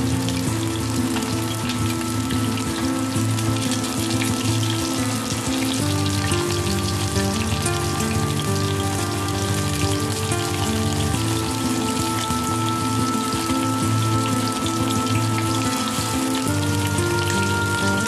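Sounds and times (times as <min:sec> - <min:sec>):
background music of held chords: 0:00.0 - 0:18.0
chicken wings sizzling in oil: 0:00.0 - 0:18.0.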